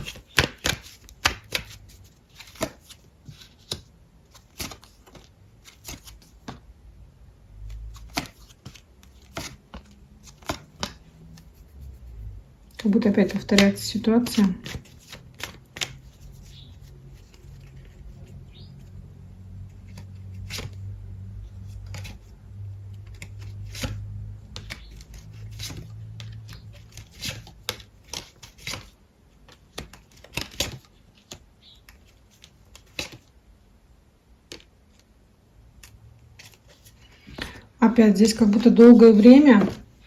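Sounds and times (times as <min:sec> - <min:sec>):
cards being shuffled: 0:00.0 - 0:06.7, 0:07.6 - 0:18.9, 0:19.7 - 0:33.4, 0:35.7 - 0:37.6, 0:38.3 - 0:40.0.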